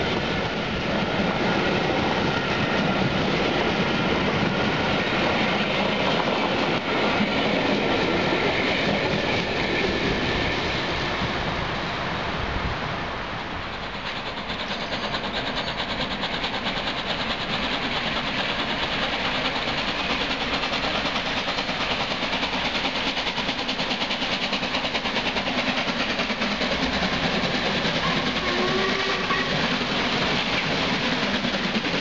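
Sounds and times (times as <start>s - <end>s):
steam locomotive chuffing: 0.0s - 32.0s.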